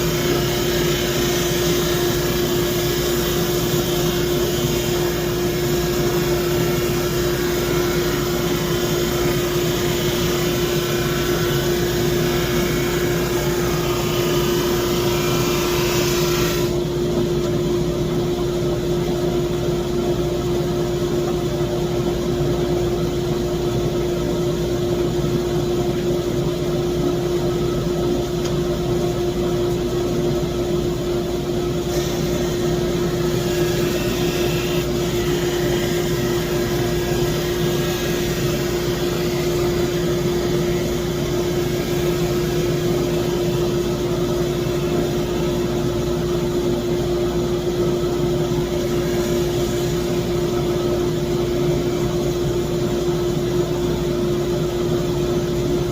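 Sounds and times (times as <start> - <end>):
drum sander humming: 0.0 - 55.9.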